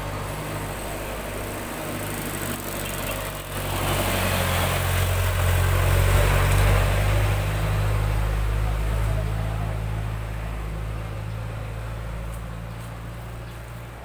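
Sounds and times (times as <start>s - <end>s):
vehicle engines driving past: 0.0s - 14.0s.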